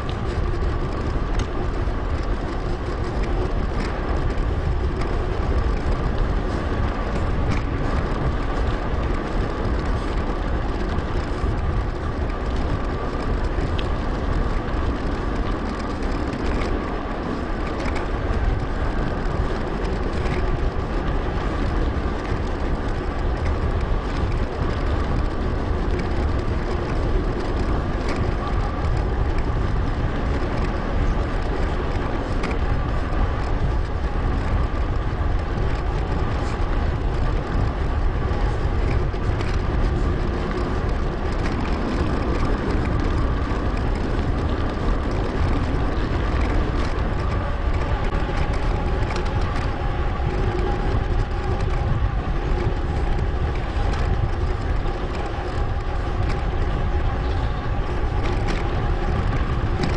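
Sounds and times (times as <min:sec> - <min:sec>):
bike tyre and drivetrain rumble: 0:00.0 - 0:59.9
small ticks: 0:00.0 - 0:59.9
wind buffeting microphone: 0:00.0 - 0:59.9.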